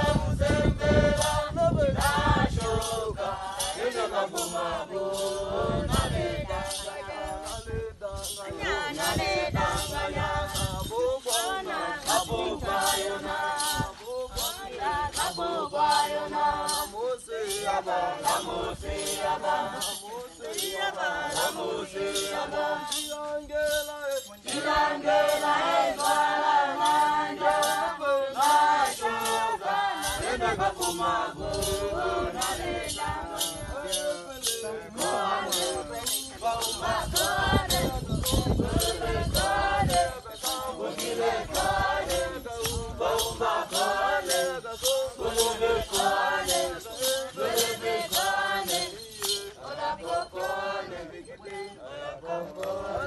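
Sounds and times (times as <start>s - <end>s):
rattling beat: 0.0s - 51.0s
group singing: 0.0s - 53.0s.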